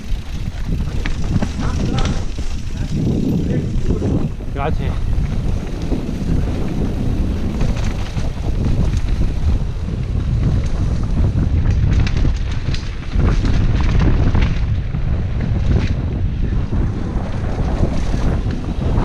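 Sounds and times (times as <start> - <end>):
bike clicking and rattling: 0.0 - 19.0
wind buffeting microphone: 0.0 - 19.0.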